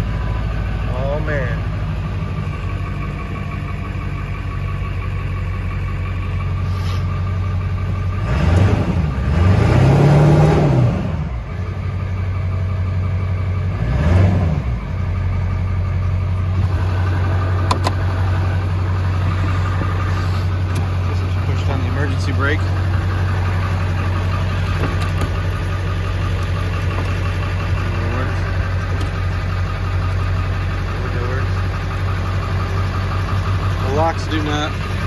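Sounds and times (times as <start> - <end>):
diesel engine idling and revving: 0.0 - 35.0.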